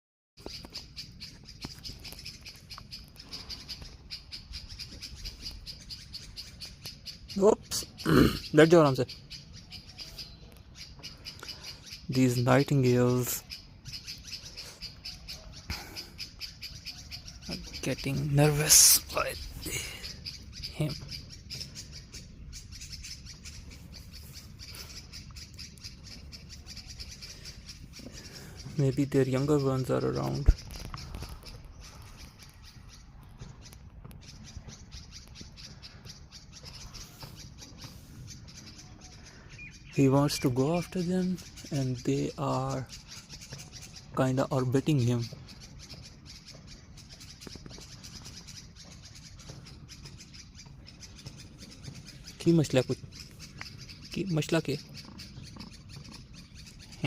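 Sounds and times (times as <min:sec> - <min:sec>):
songbirds giving short high calls: 0:00.4 - 0:57.0.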